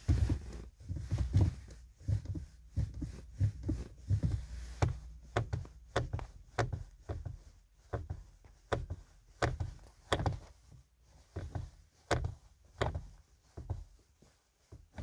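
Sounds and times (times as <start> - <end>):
boots pressing car pedals: 0.0 - 14.0, 14.6 - 15.0.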